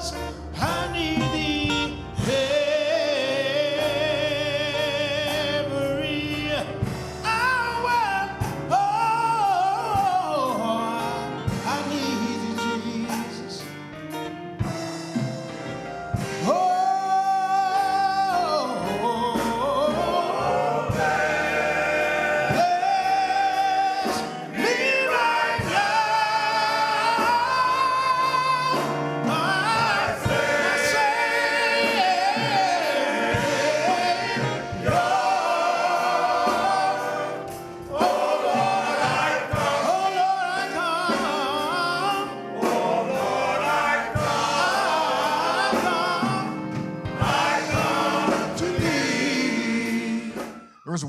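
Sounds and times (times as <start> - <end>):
gospel choir singing: 0.0 - 51.0
music: 0.0 - 51.0.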